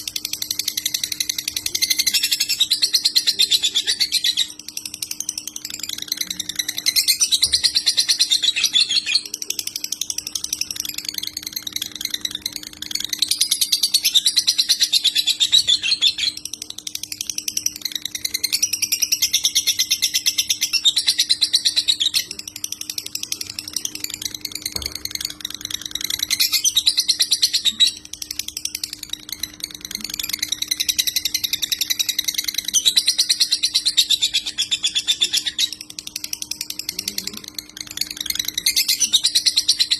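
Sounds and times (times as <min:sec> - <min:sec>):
lovebird rapid high chatter: 0:00.0 - 0:39.9
steady low hum: 0:00.0 - 0:39.9.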